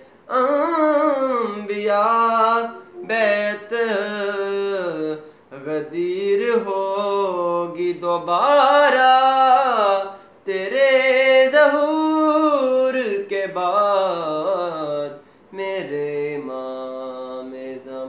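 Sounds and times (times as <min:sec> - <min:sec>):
young man singing unaccompanied: 0:00.0 - 0:18.0.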